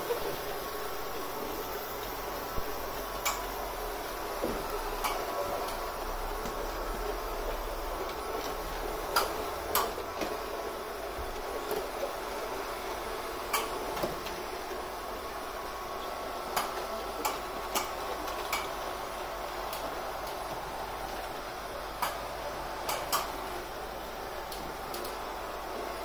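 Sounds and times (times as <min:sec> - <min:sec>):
robot vacuum cleaner whirring: 0:00.0 - 0:26.0.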